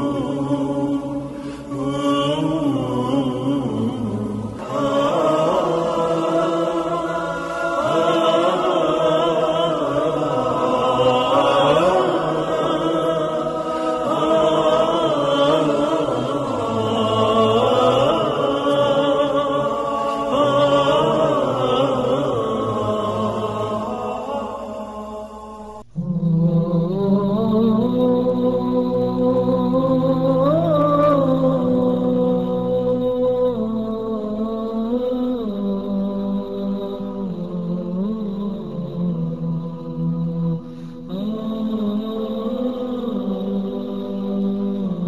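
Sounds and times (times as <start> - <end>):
man chanting: 0.0 - 45.0.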